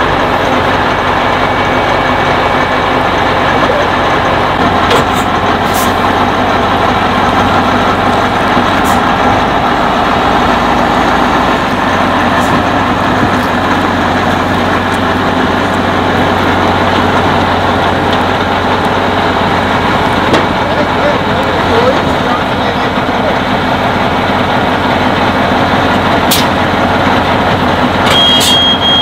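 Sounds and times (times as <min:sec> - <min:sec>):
diesel truck engine running: 0:00.0 - 0:29.0.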